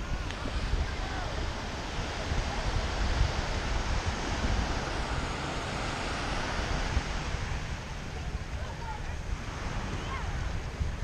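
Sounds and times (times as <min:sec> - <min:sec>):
ocean surf washing ashore: 0:00.0 - 0:11.0
wind buffeting microphone: 0:00.0 - 0:11.0.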